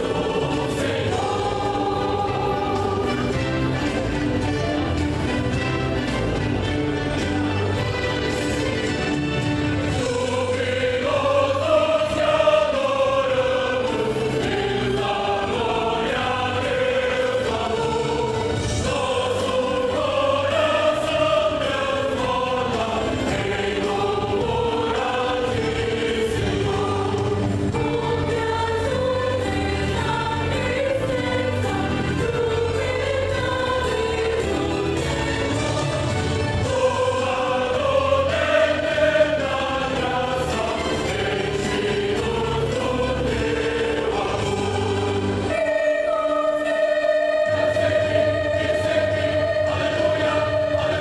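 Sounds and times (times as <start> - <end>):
choir singing gospel song: 0.0 - 51.0.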